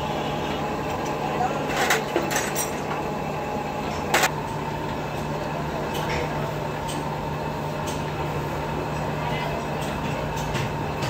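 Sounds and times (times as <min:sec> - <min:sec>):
low workshop hum: 0:00.0 - 0:11.0.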